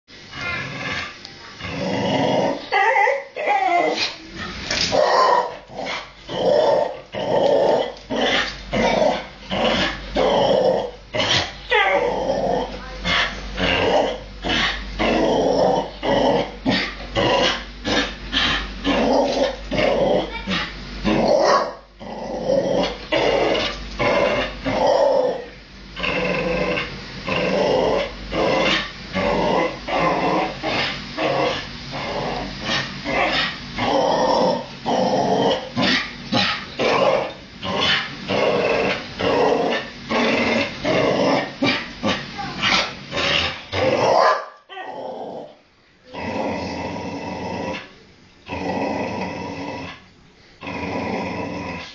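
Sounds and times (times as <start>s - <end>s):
dog growling and yipping: 0.3s - 50.0s.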